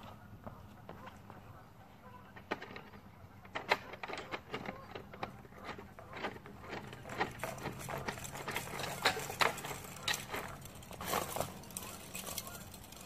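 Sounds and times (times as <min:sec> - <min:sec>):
sharp clicks and knocks: 0:02.2 - 0:13.0.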